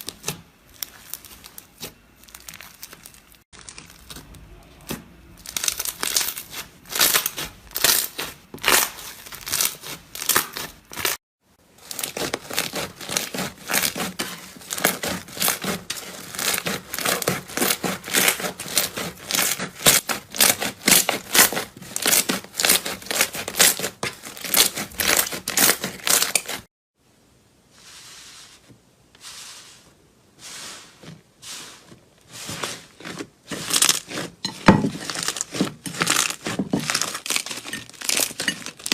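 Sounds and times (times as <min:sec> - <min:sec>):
slime squished crackling and popping: 0:00.0 - 0:11.2, 0:11.8 - 0:26.6, 0:32.7 - 0:38.9.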